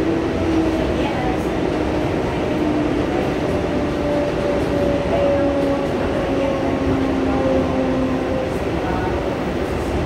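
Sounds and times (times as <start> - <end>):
subway train standing noise: 0.0 - 10.0.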